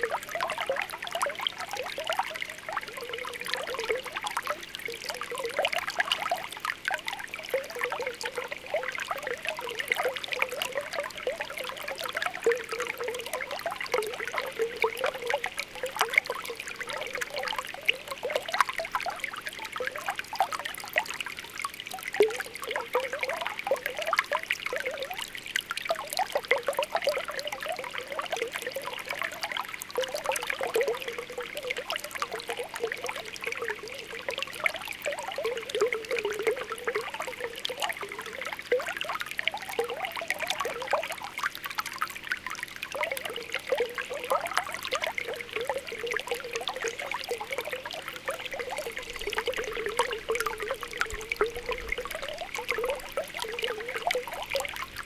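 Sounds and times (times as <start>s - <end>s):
water bubbling: 0.0s - 55.0s
water trickling: 0.0s - 55.0s.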